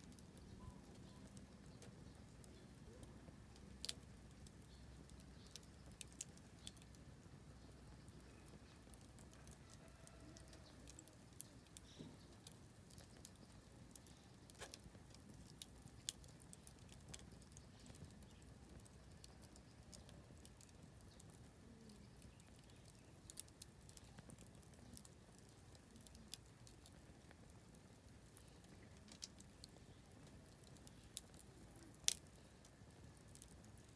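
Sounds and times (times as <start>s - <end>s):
firewood crackling and popping: 0.0s - 33.9s.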